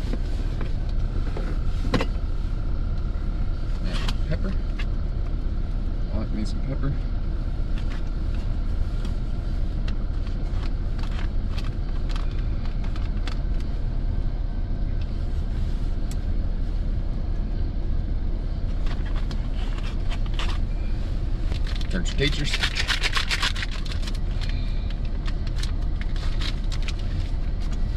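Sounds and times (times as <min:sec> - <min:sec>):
pickup truck engine idling: 0:00.0 - 0:27.9.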